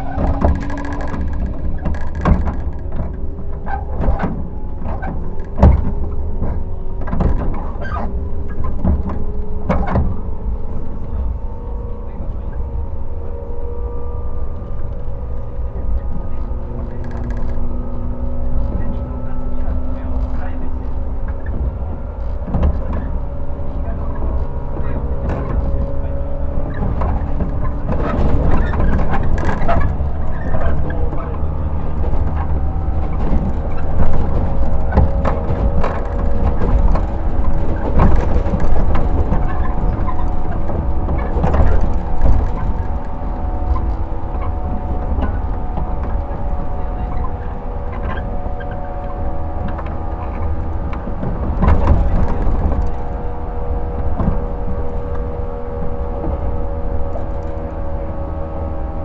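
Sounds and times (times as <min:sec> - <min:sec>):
clicks and knocks from wheels: 0:00.0 - 0:12.8, 0:13.4 - 0:59.0
train motor rumble and hum: 0:00.0 - 0:59.0.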